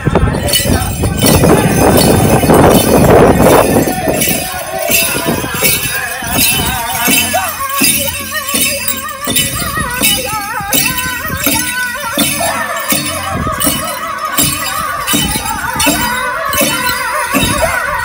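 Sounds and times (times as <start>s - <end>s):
high wavering singing voices: 0.0s - 18.0s
steady drumbeat: 0.4s - 17.8s.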